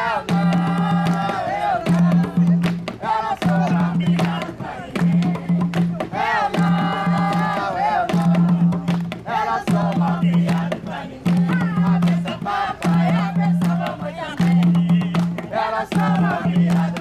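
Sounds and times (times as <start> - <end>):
group singing: 0.0 - 17.0
hand drumming: 0.2 - 17.0.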